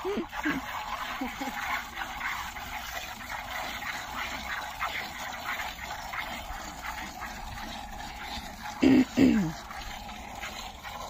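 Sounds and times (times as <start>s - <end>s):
milk squirting into a bucket: 0.0s - 11.0s.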